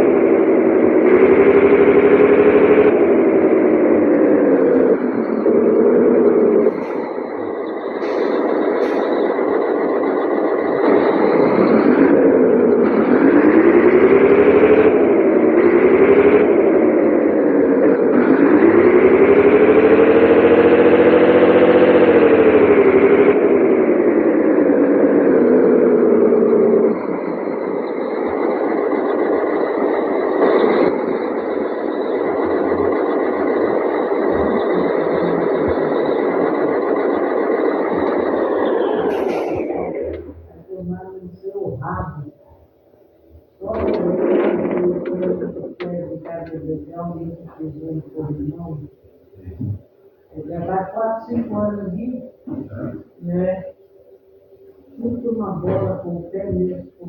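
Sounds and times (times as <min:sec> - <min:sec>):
diesel truck engine under load: 0:00.0 - 0:53.2.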